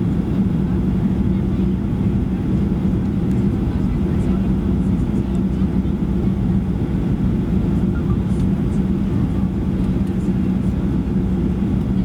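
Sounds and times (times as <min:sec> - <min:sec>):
jet engine cabin drone: 0:00.0 - 0:12.0.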